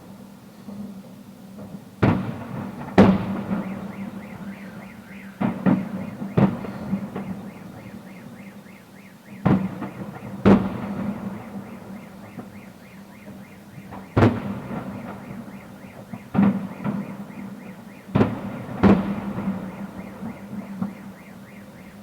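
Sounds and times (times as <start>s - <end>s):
fireworks bangs: 2.0s - 22.0s.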